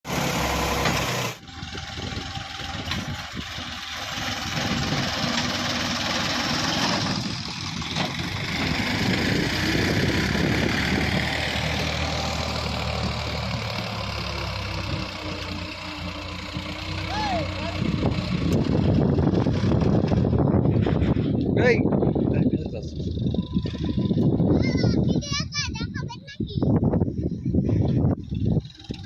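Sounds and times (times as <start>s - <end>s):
tractor diesel engine running: 0.1s - 29.0s.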